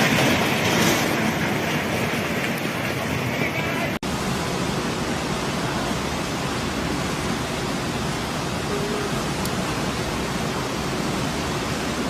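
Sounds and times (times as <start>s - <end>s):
fast water rushing: 0.0s - 12.0s.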